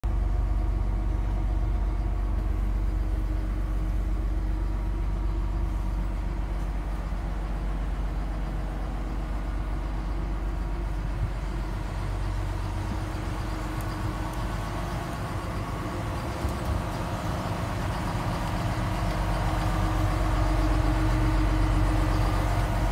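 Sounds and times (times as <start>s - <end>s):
low droning machinery hum: 0.0s - 22.9s.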